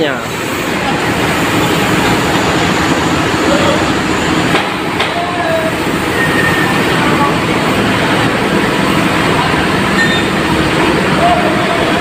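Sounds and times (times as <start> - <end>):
diesel bus engine running: 0.1 - 12.0.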